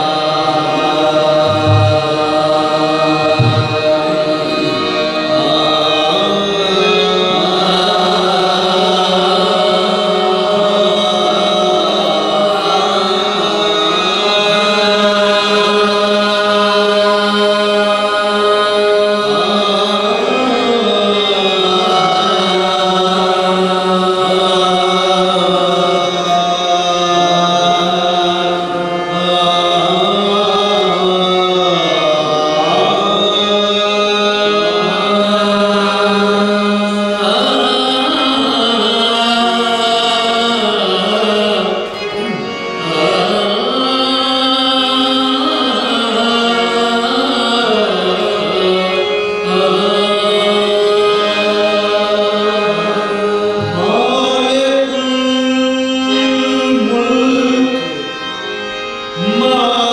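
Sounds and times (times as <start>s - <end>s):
harmonium drone: 0.0s - 59.9s
voices singing long notes: 0.0s - 59.9s.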